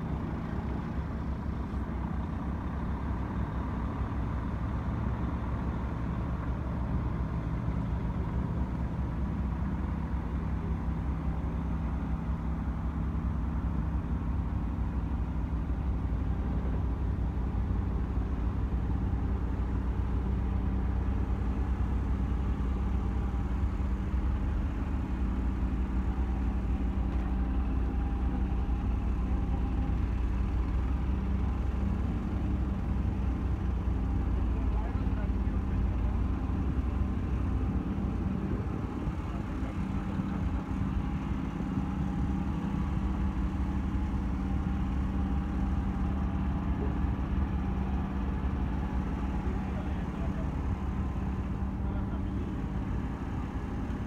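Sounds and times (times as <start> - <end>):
heavy vehicle engine idling: 0.0 - 54.0.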